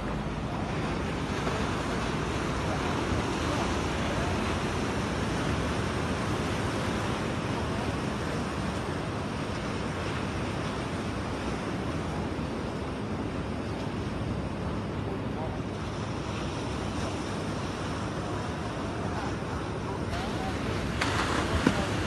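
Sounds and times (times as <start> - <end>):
surf washing against rocks: 0.0 - 22.0.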